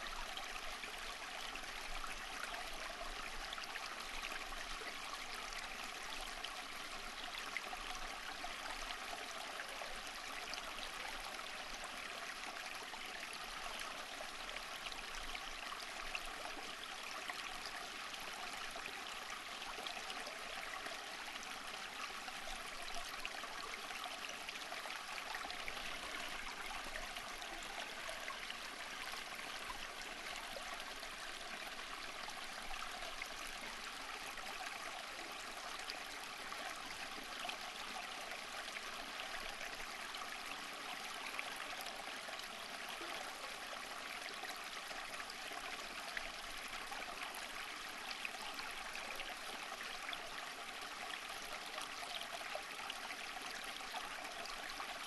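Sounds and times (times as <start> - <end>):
stream flowing and babbling: 0.0 - 55.0.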